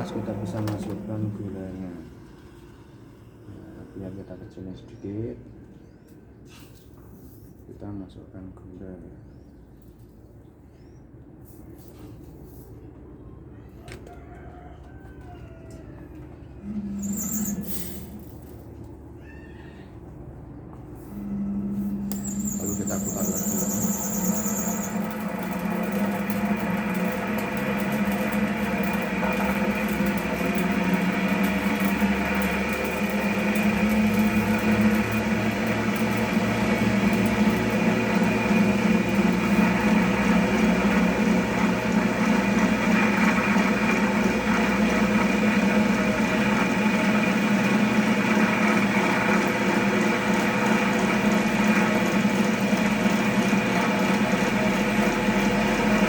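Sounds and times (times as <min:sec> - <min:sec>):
cotton candy machine humming: 0:00.0 - 0:04.8, 0:15.0 - 0:56.0.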